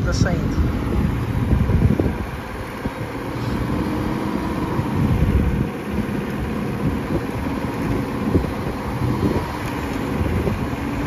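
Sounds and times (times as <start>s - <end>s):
off-road engine running: 0.0s - 11.0s.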